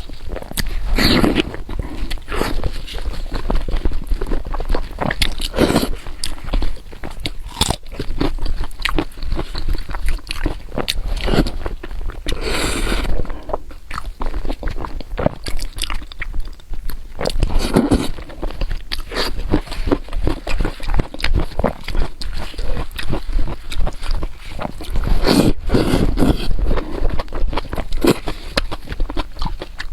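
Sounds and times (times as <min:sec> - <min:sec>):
person chewing food: 0:00.0 - 0:29.9.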